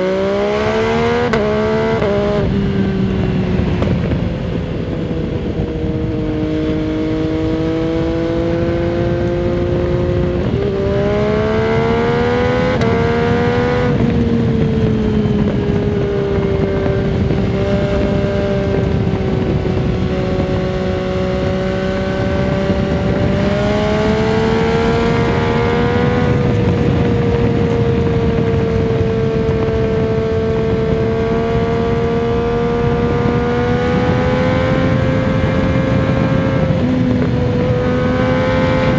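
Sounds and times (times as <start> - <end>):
motorcycle engine: 0.0 - 38.9
wind noise on microphone: 0.0 - 38.9.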